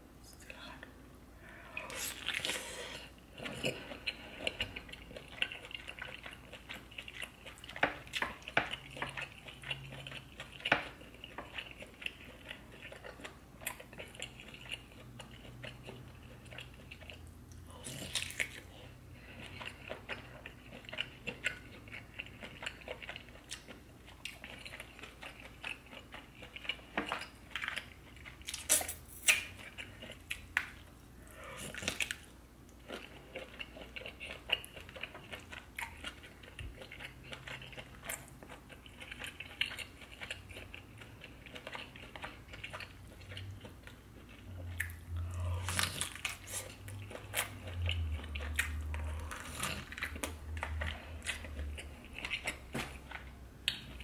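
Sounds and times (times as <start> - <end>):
wet chewing and smacking: 1.9 - 54.0.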